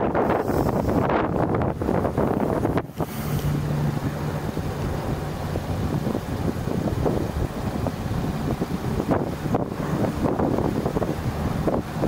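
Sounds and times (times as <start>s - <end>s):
car sloshing through floodwater: 0.0s - 12.0s
wind buffeting microphone: 0.0s - 12.0s.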